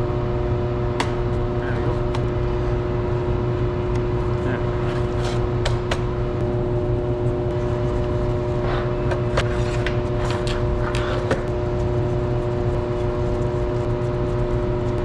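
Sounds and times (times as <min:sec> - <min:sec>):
machine drone: 0:00.0 - 0:15.0.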